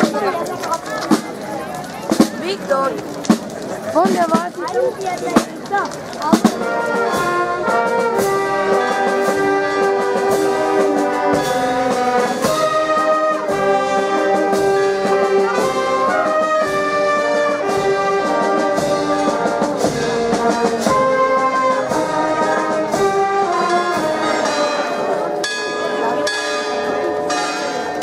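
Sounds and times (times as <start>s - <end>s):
wind band playing: 2.1s - 26.3s.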